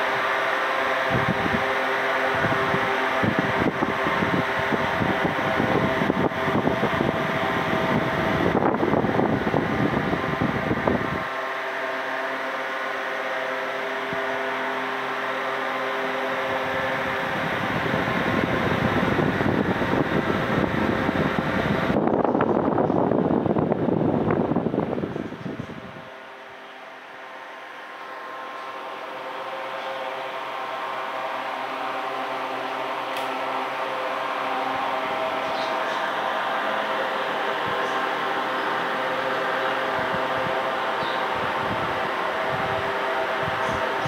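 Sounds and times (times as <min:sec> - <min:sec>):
electric fan running: 0:00.0 - 0:44.0.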